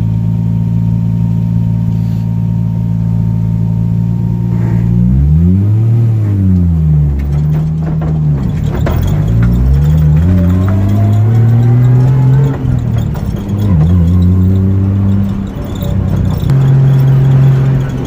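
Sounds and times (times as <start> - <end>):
car engine revving: 3.5 - 18.0.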